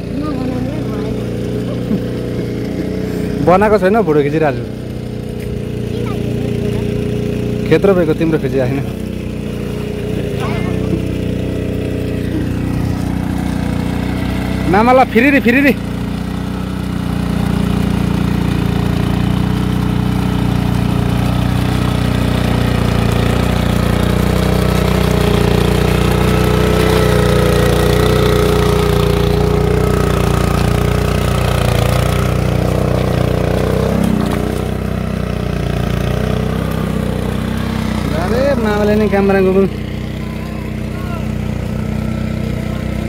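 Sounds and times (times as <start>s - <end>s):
tiller engine running: 0.0s - 43.0s.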